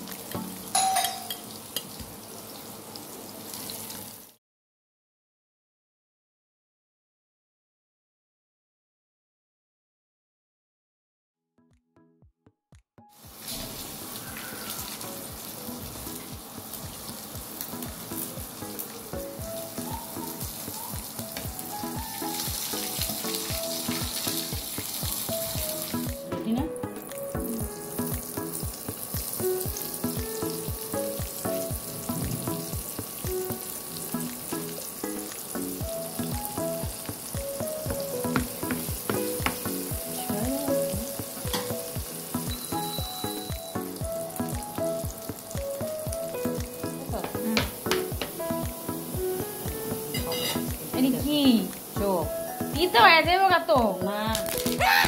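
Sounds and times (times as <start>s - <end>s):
background music melody: 0.0s - 2.3s, 11.6s - 55.0s
onions sizzling in hot oil: 0.0s - 4.4s, 13.1s - 55.0s.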